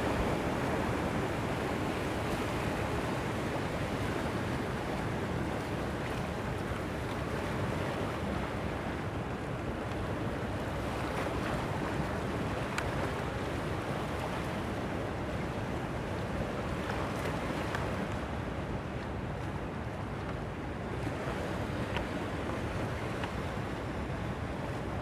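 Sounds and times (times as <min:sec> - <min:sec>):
sea surf on rocky shore: 0:00.0 - 0:25.0.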